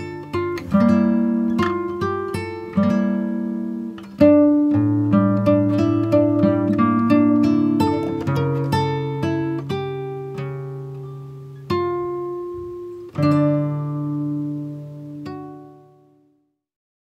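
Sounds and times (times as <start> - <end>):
strummed guitar chords: 0.0 - 16.2
acoustic guitar plucked notes: 0.0 - 16.4.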